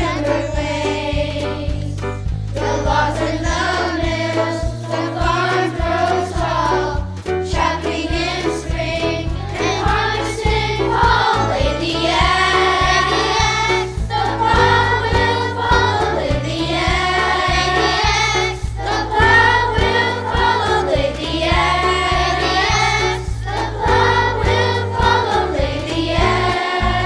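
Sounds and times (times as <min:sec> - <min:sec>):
children singing: 0:00.0 - 0:02.0, 0:02.6 - 0:27.0
instrumental accompaniment: 0:00.0 - 0:27.0.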